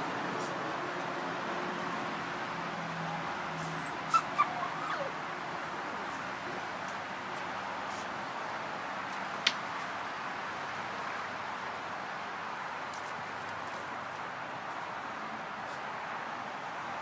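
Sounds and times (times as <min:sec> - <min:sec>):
distant urban hum: 0:00.0 - 0:17.0.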